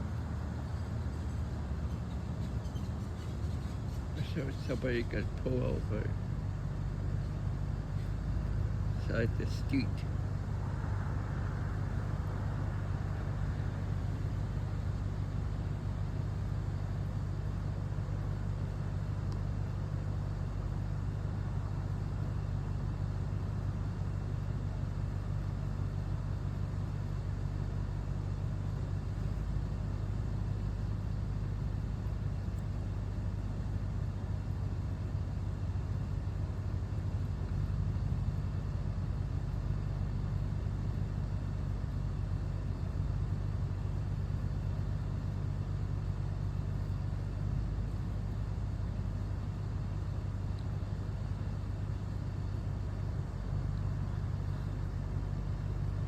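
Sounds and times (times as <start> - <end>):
faint outdoor hiss: 0.0 - 56.0
low mechanical hum: 0.0 - 56.0.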